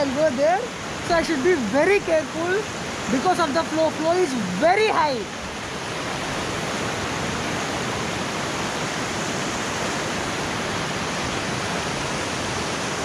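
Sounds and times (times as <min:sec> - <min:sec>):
river rushing over rapids: 0:00.0 - 0:13.0.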